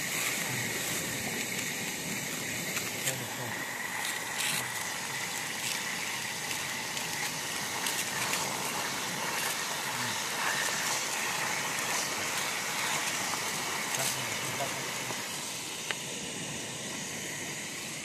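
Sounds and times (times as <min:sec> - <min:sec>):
oil crackling: 0:00.0 - 0:16.2
chicken deep-frying in oil: 0:00.0 - 0:18.0.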